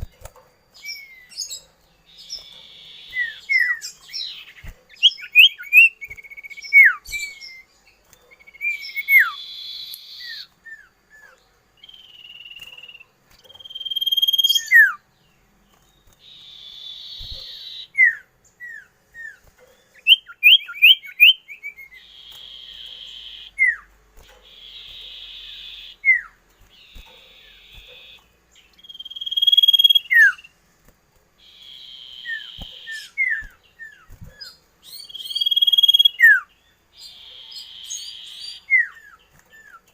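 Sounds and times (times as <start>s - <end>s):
songbird singing: 0.0s - 30.7s, 31.4s - 39.9s.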